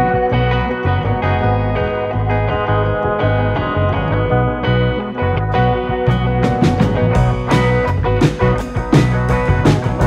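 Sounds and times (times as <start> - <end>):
bass line: 0.0 - 10.0
guitar-led instrumental music: 0.0 - 10.0.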